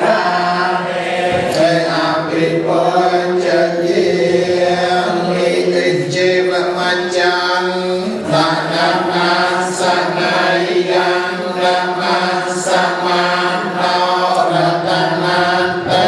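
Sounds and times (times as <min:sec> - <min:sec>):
congregation chanting prayer: 0:00.0 - 0:16.0
man chanting over loudspeaker: 0:00.0 - 0:16.0.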